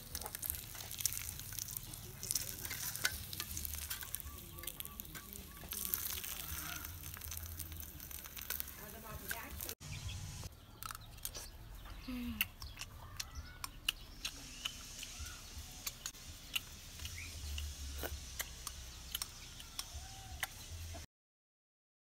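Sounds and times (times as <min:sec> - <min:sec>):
faint chirps: 0:01.1 - 0:08.8, 0:09.8 - 0:21.0.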